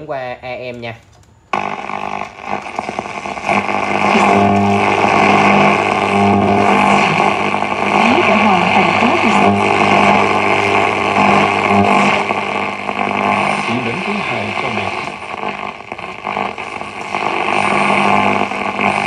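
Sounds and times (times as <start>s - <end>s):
low speaker hum: 1.5s - 19.0s
radio static hiss: 1.5s - 19.0s.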